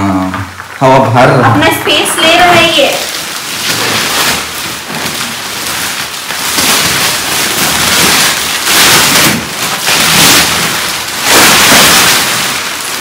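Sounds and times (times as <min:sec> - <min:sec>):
plastic film crinkling and rustling: 0:00.4 - 0:13.0.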